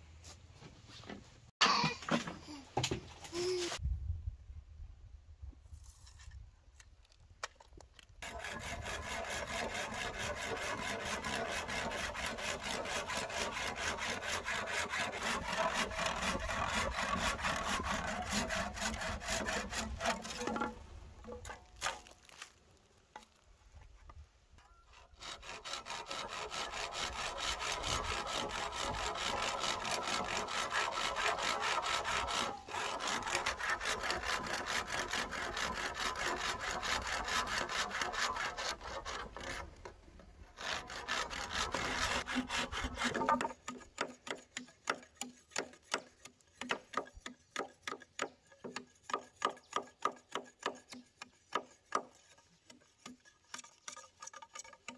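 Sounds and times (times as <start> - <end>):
hand saw cutting bamboo: 8.2 - 22.6, 24.8 - 54.9.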